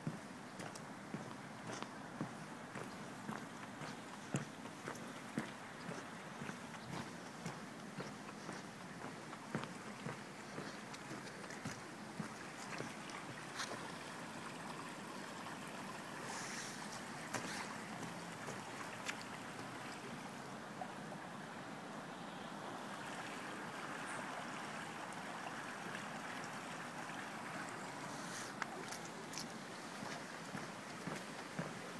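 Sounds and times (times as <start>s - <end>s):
creek water rushing: 0.0s - 31.9s.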